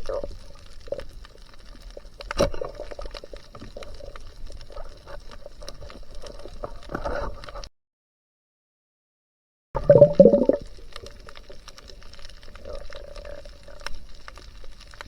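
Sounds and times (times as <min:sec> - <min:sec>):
underwater crackling and clicking: 0:00.0 - 0:07.7, 0:09.8 - 0:15.0.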